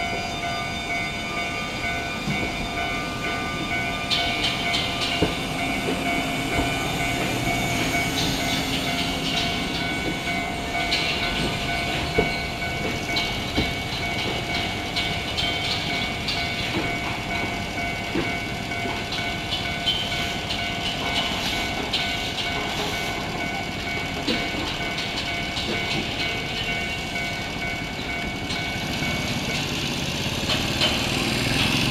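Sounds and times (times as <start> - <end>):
train passing slowly: 0.0 - 31.9
train running rumble: 0.0 - 31.9.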